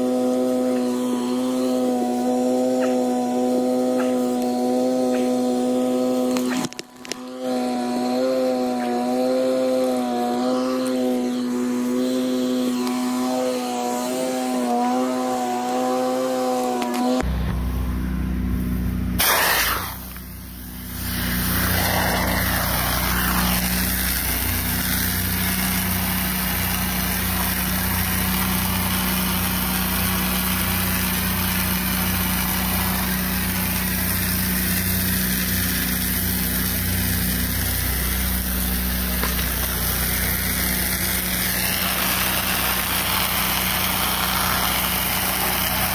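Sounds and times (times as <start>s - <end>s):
pressure washer engine running: 0.0s - 45.9s.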